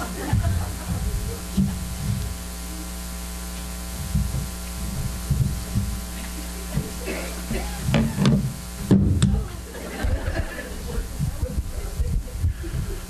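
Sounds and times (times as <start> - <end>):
buzzy electrical mains hum: 0.0 - 13.0
soft low thumps: 0.0 - 13.0.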